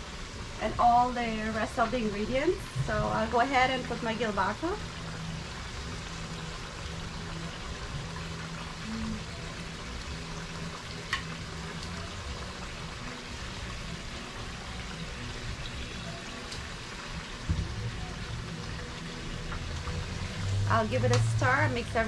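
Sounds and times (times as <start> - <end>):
pot simmering: 0.0 - 22.0.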